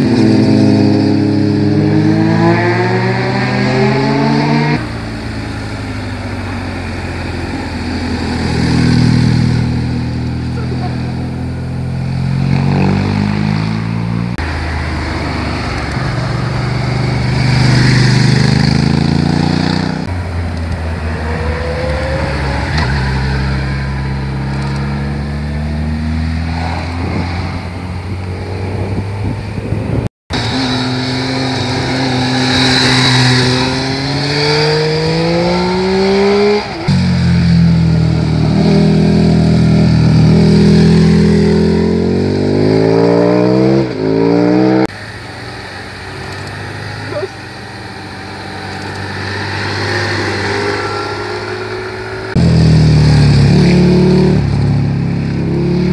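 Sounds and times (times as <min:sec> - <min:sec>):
motorcycle engines passing: 0:00.0 - 0:55.9.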